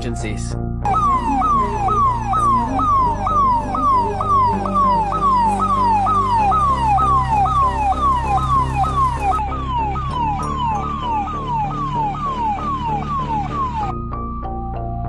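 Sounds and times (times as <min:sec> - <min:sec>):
low bass music: 0:00.0 - 0:15.0
electronic siren cycling: 0:00.8 - 0:15.0.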